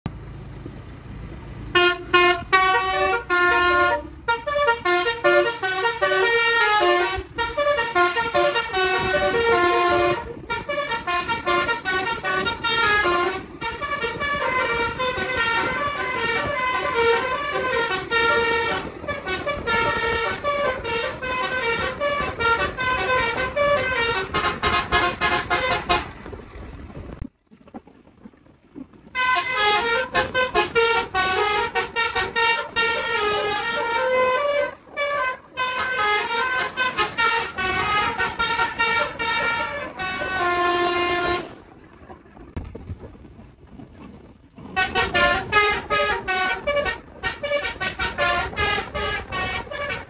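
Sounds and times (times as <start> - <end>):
low rumble: 0.1 - 50.0
musical air horn melody: 1.7 - 26.2, 29.2 - 41.6, 44.8 - 50.0.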